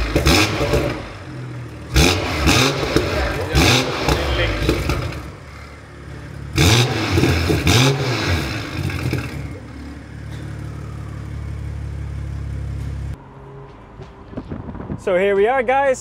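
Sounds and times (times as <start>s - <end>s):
car engine revving and idling: 0.0s - 13.2s.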